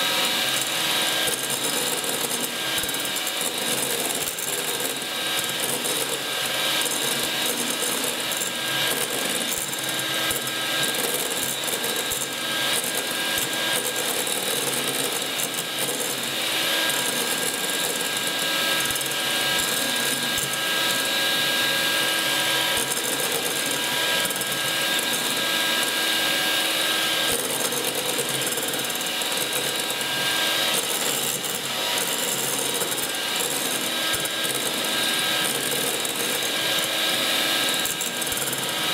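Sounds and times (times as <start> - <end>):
electric hand mixer whining: 0.0 - 38.9.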